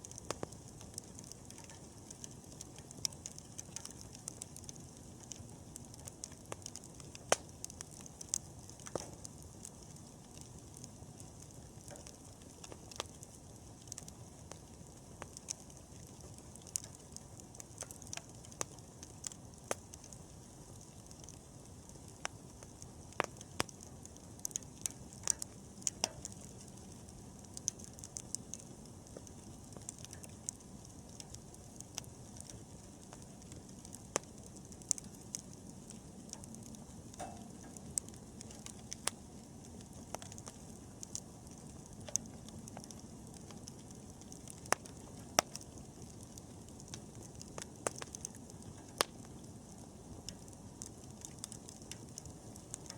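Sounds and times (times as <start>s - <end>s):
bonfire crackling and popping: 0.0s - 52.9s
low rush of flames: 0.0s - 52.9s.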